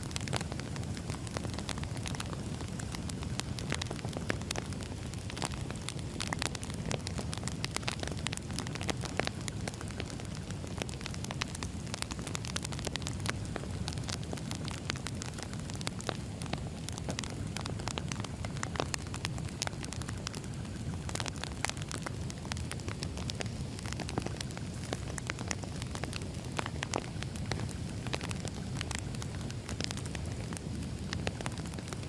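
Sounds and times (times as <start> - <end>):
logs crackling and popping: 0.0 - 32.0
low rumble of fire: 0.0 - 32.0.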